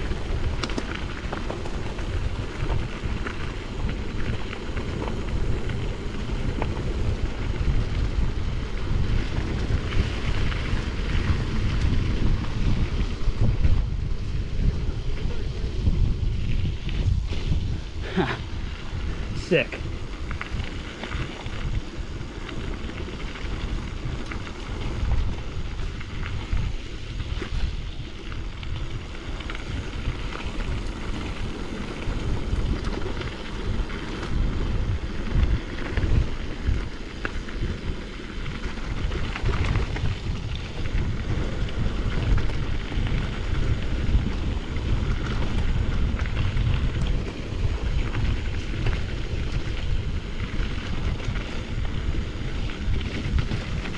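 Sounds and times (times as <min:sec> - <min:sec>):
bike clicks and rattles: 0:00.0 - 0:53.9
bike tyre noise on rough trail: 0:00.0 - 0:53.9
wind buffeting microphone: 0:00.0 - 0:53.9.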